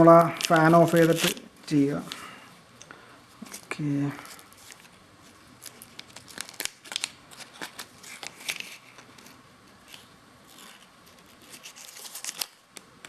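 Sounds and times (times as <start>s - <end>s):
sachet crackling and crinkling: 0.0s - 2.2s, 3.4s - 12.9s.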